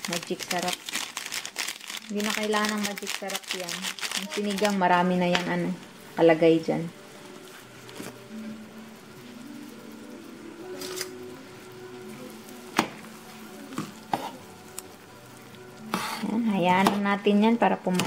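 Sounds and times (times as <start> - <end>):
broth boiling and bubbling: 0.0 - 18.0
soft background music: 0.0 - 18.0.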